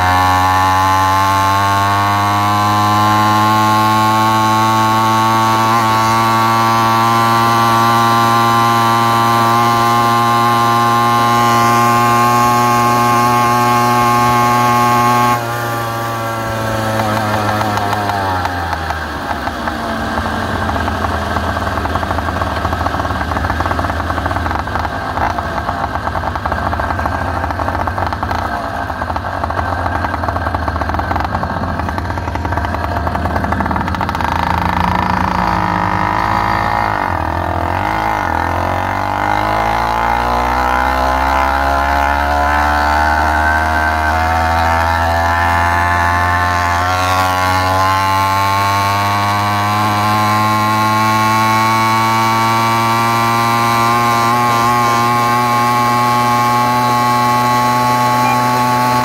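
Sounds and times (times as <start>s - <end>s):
two-stroke engine running: 0.0s - 59.0s.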